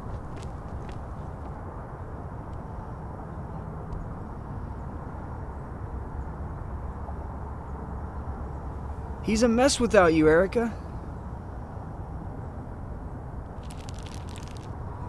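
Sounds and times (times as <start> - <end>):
low rumbling outdoor ambience: 0.0 - 15.0.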